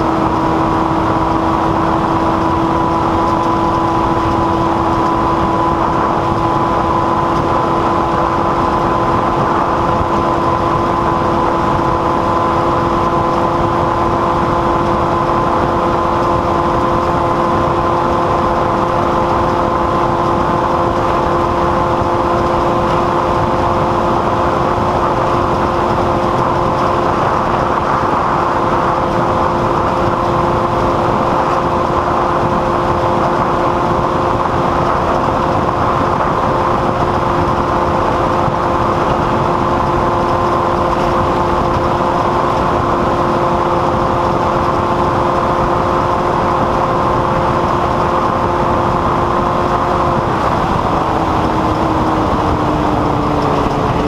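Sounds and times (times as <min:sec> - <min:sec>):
held tones rising in pitch: 0:00.0 - 0:54.0
machine drone: 0:00.0 - 0:54.0.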